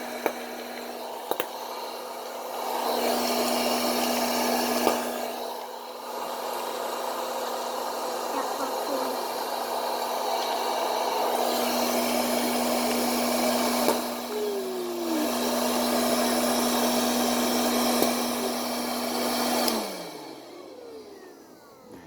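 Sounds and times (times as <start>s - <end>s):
appliance motor and fan running: 0.0s - 22.0s.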